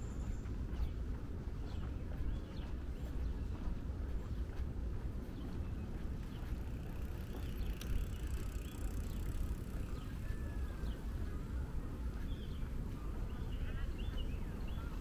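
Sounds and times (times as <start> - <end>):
low rumble of passing traffic: 0.0 - 15.0.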